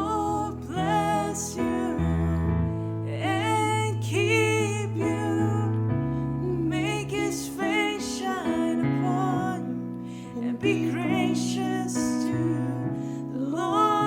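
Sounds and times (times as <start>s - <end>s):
keyboard and piano chords: 0.0s - 14.0s
person singing: 0.0s - 14.0s.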